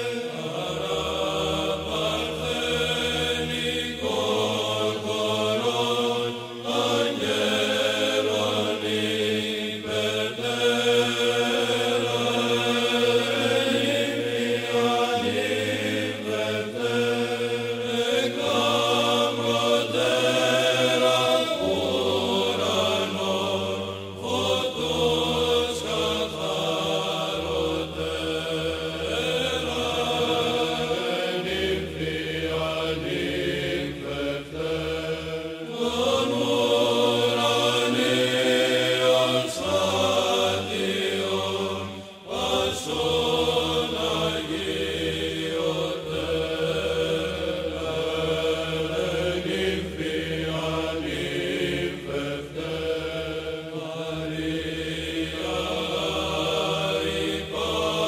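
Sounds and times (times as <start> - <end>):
chanting voices: 0.0 - 58.0.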